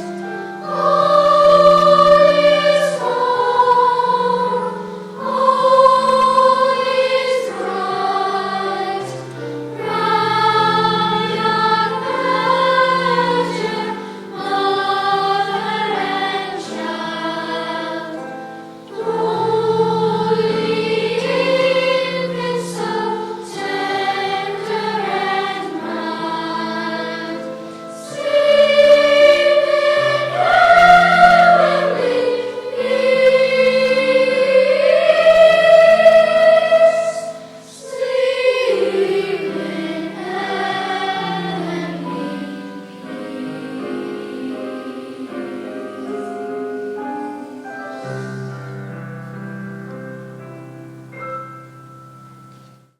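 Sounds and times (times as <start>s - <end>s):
youth choir singing in harmony: 0.0s - 50.5s.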